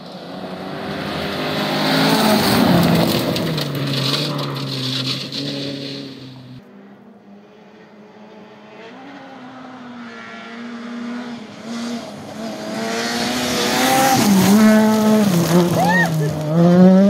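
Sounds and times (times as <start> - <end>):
rally car engine approaching: 0.0 - 17.0.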